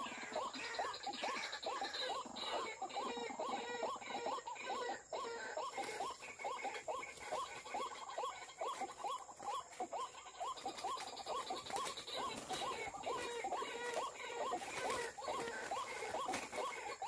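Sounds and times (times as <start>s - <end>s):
bird calling: 0.0s - 17.0s.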